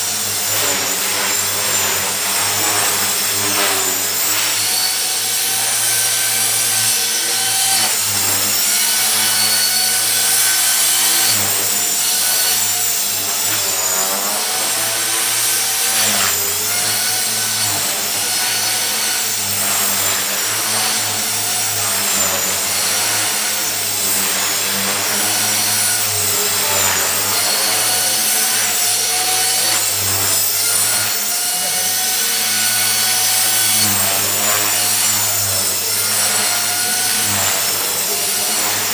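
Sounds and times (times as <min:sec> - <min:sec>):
rc helicopter motor whine: 0:00.0 - 0:38.9
rotor blade noise: 0:00.0 - 0:38.9.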